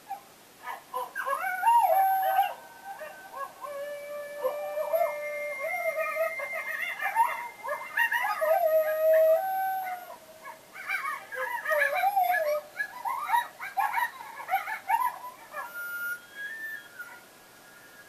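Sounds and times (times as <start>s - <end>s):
coyotes yipping and howling: 0.0s - 18.0s.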